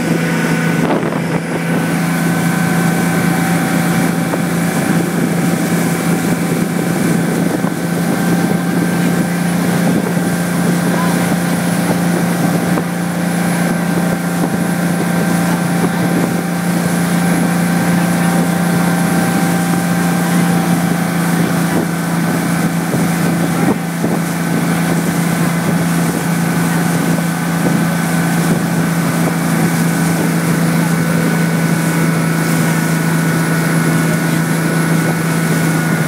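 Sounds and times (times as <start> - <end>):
boat engine humming: 0.0 - 36.0
rushing water: 0.0 - 36.0
wind on microphone: 0.0 - 36.0.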